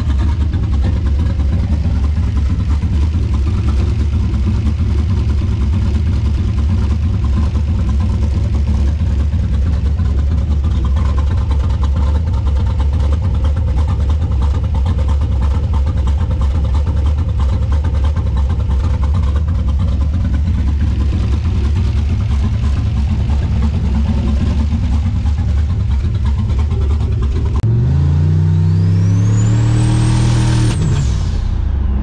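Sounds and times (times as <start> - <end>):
engine idling deep and low: 0.0 - 32.0.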